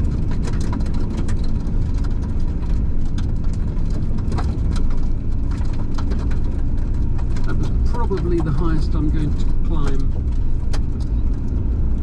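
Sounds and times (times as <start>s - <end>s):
mud clicking off tyres: 0.0s - 12.0s
van engine and road rumble: 0.0s - 12.0s.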